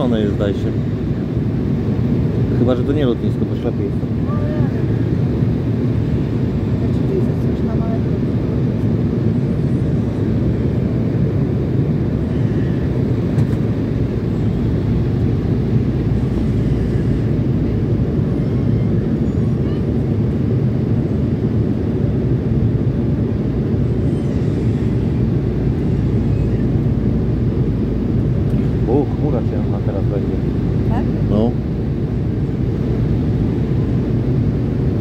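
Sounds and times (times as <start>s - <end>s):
jet engines droning in cabin: 0.0s - 35.0s.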